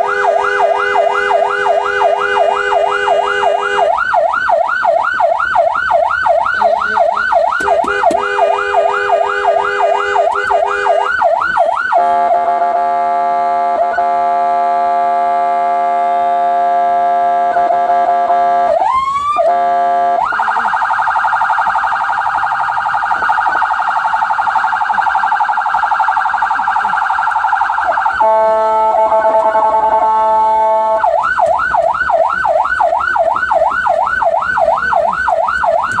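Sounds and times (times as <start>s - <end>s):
ambulance siren: 0.0s - 36.0s.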